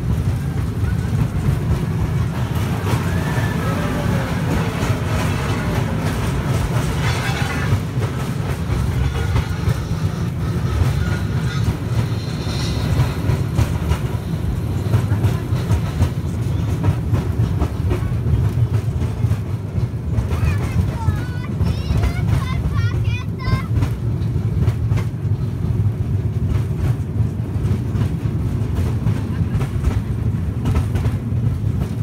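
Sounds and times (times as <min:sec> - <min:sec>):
train carriage rumbling: 0:00.0 - 0:32.0.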